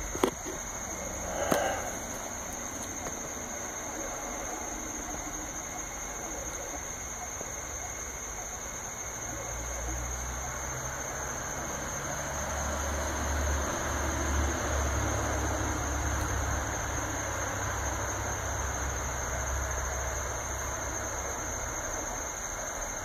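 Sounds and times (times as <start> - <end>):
cooling fan hiss and whine: 0.0 - 23.0.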